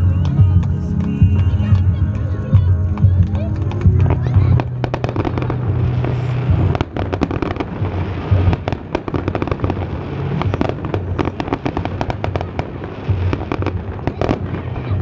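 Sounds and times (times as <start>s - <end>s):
fireworks bursting: 0.0s - 15.0s
low rumble: 0.0s - 15.0s.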